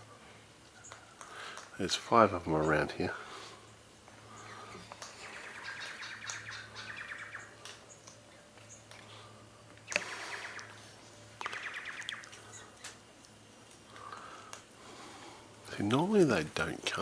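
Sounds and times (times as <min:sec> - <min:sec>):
birds chattering trills: 0:00.1 - 0:17.0.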